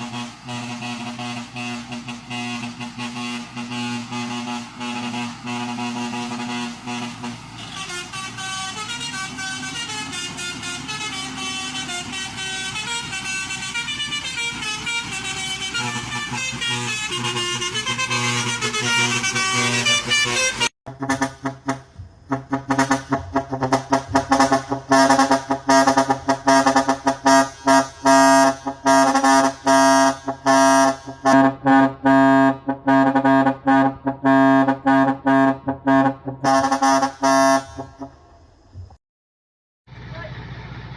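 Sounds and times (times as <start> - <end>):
rapid short air horn blasts: 0.0 - 38.2
air horns sounding tune: 0.0 - 38.3.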